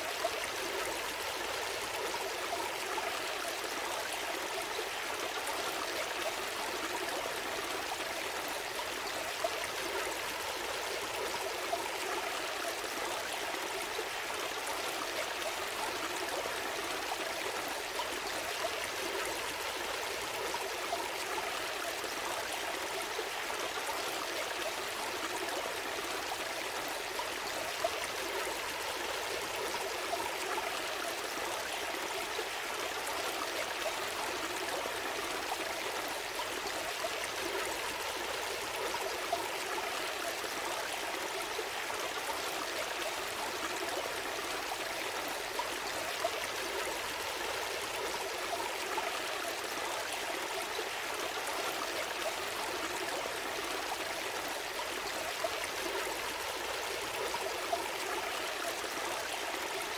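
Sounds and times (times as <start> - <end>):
stream flowing with gurgles: 0.0 - 59.9.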